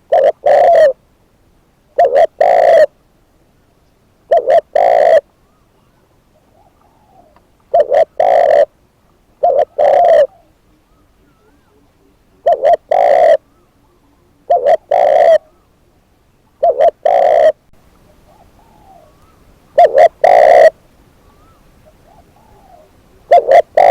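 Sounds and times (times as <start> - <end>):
dove cooing: 0.0 - 1.0, 1.9 - 3.0, 4.3 - 8.8, 9.4 - 23.9.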